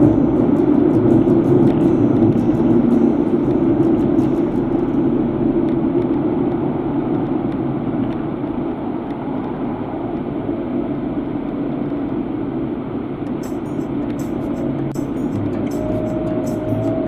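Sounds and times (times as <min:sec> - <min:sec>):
car interior road and engine noise: 0:00.0 - 0:17.0.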